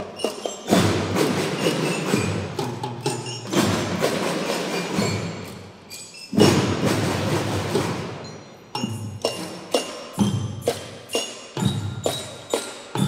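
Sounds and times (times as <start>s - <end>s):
drums: 0.0s - 13.0s.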